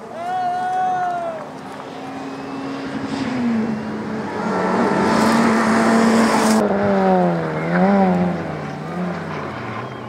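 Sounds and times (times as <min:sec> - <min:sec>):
road and tyre noise: 0:00.0 - 0:10.0
second rally car engine: 0:01.1 - 0:10.0
rally car engine at high revs: 0:01.6 - 0:10.0.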